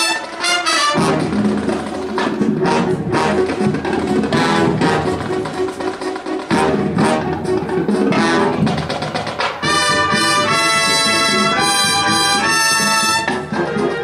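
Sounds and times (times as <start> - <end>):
loud held brass chords: 0.0 - 5.8, 6.4 - 9.0, 9.6 - 14.0
marching band playing: 0.0 - 14.0.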